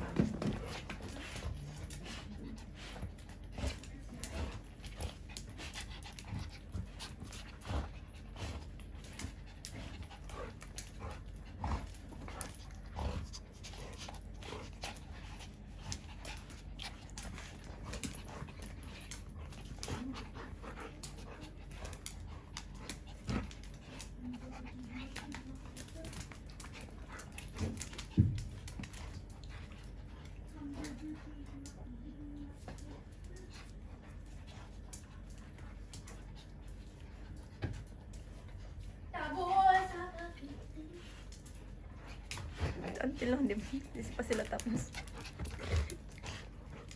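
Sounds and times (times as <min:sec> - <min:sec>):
dogs panting: 0:00.0 - 0:46.9
paws scuffing and clicking: 0:00.0 - 0:46.9.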